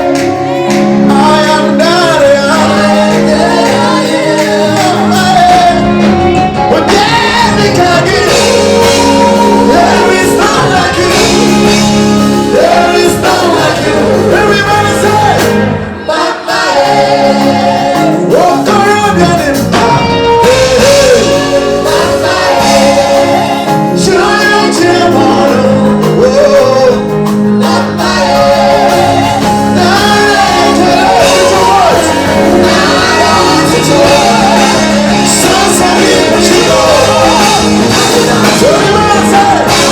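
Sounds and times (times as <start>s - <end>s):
gospel singer with band: 0.0s - 39.9s.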